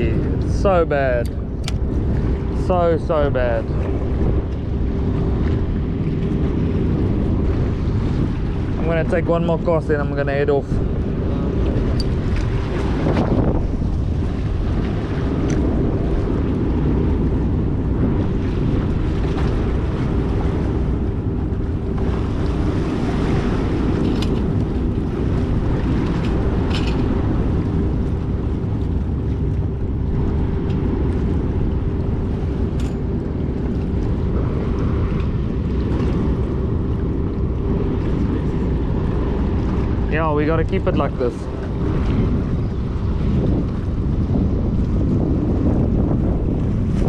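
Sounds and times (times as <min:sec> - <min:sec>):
steady hum: 0:00.0 - 0:47.0
wind buffeting microphone: 0:00.0 - 0:47.0.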